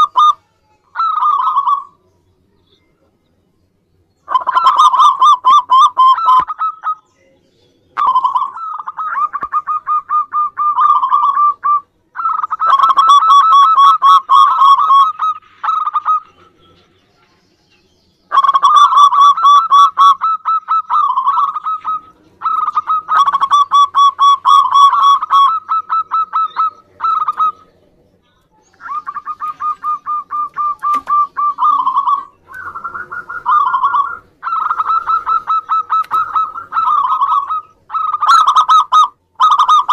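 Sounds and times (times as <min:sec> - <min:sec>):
dove cooing: 0:00.0 - 0:02.1, 0:04.3 - 0:07.1, 0:08.0 - 0:16.8, 0:18.3 - 0:39.9.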